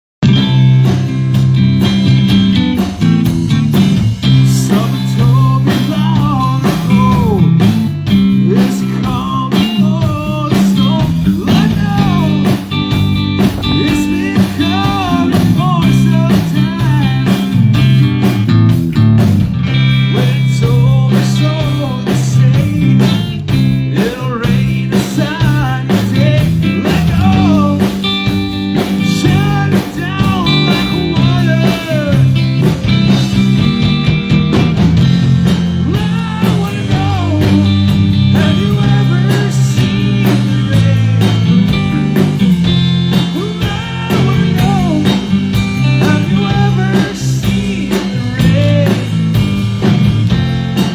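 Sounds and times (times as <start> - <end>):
bass guitar: 0.2 - 50.9
drums: 0.2 - 50.9
electric guitar lead lines: 0.2 - 50.9.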